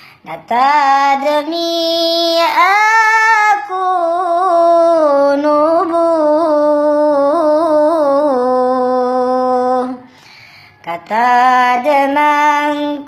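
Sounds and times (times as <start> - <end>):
person chanting unaccompanied: 0.2 - 10.1, 10.8 - 13.0.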